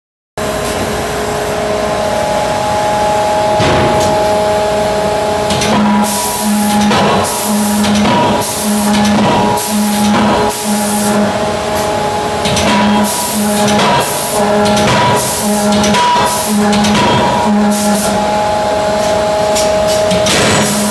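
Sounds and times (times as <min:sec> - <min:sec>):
machine hum: 0:00.4 - 0:20.9.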